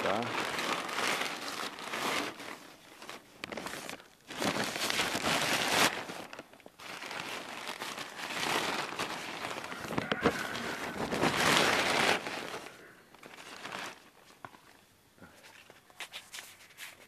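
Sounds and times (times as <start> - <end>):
plastic sheeting rustling: 0.0 - 17.0.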